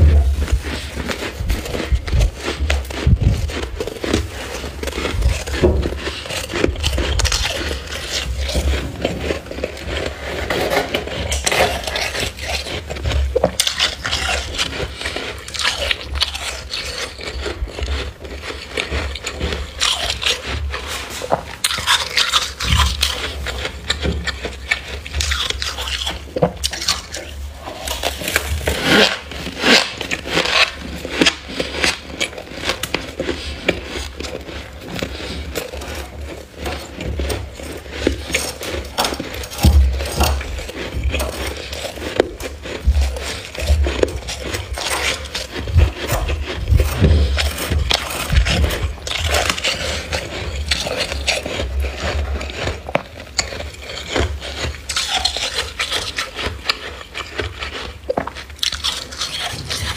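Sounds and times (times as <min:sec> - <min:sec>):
metal spoon scraping frost: 0:00.0 - 0:59.9.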